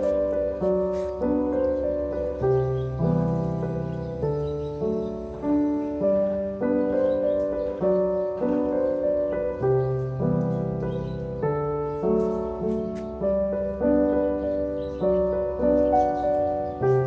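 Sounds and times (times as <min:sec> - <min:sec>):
gentle solo piano music: 0:00.0 - 0:17.0.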